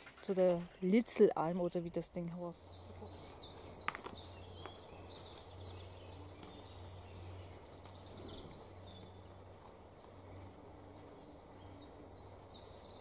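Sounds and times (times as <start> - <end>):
faint low hum: 0.0 - 13.0
small songbirds singing: 0.0 - 13.0.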